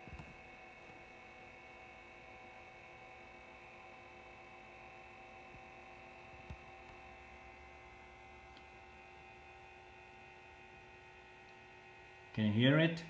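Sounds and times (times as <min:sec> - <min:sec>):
amplifier cooling fans humming: 0:00.0 - 0:13.0.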